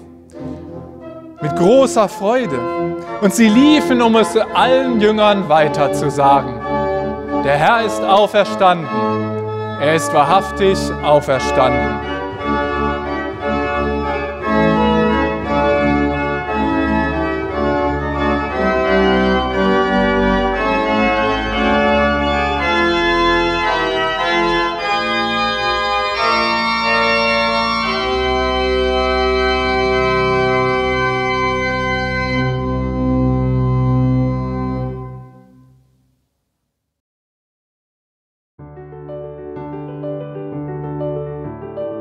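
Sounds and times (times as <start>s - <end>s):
pipe organ chords: 0.0s - 36.0s.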